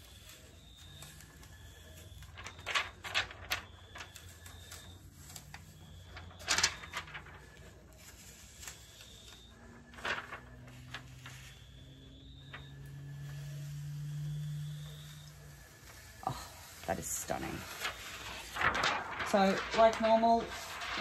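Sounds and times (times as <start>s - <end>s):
plastic sheet peeling and crackling: 0.0s - 21.0s.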